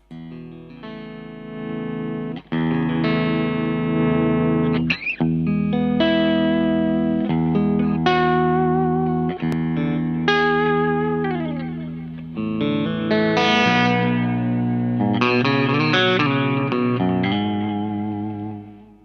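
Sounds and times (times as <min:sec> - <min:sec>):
distorted electric guitar chords: 0:00.0 - 0:19.0.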